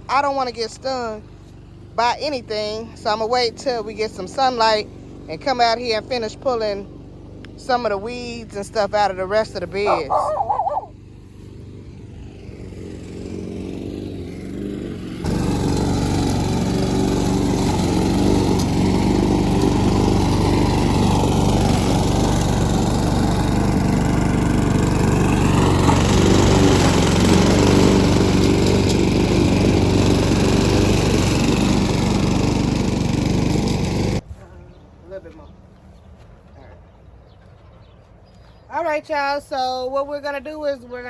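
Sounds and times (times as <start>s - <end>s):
small engine running: 0.0s - 34.2s.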